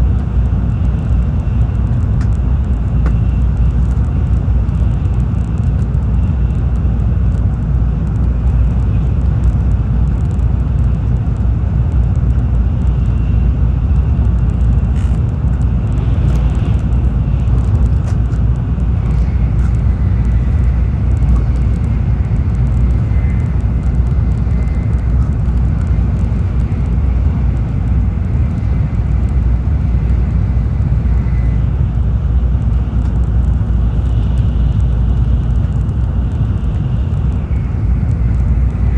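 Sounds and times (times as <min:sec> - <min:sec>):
faint high whine: 0:00.0 - 0:38.9
train wheels and air rumbling: 0:00.0 - 0:38.9.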